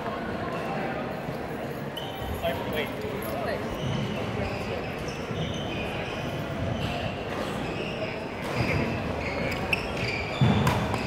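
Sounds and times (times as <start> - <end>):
sneakers squeaking on gym floor: 1.9 - 11.0.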